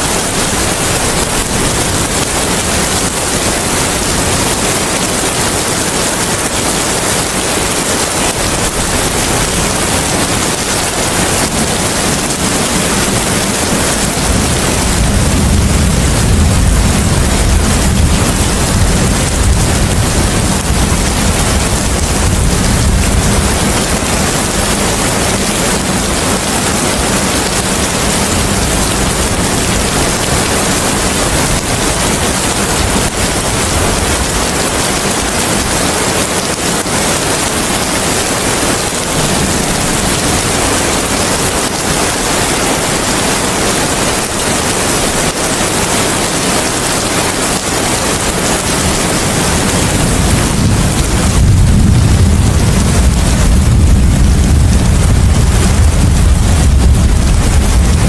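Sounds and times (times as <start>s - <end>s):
heavy rain hissing: 0.0s - 58.0s
wind rumbling: 0.0s - 58.0s.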